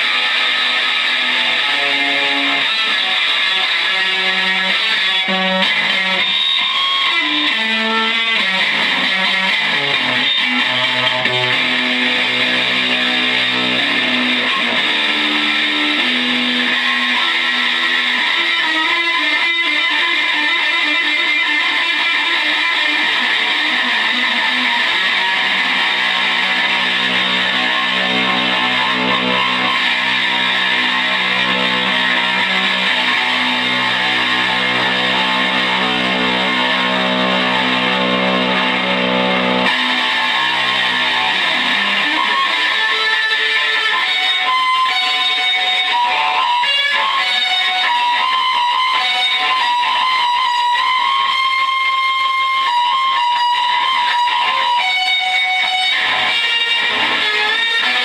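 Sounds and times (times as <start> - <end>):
electric guitar noise drone: 0.0 - 58.0.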